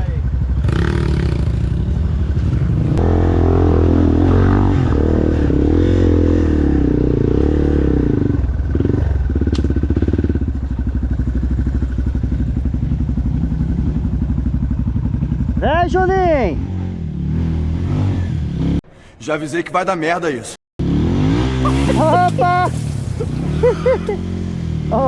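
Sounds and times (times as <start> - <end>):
dirt bike engine revving: 0.4 - 15.6, 16.5 - 18.8, 20.8 - 25.0.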